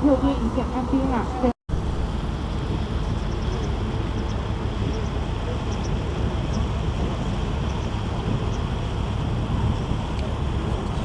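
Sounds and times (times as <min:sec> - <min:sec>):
boat engine droning: 0:00.0 - 0:11.0
rushing noise: 0:01.2 - 0:11.0.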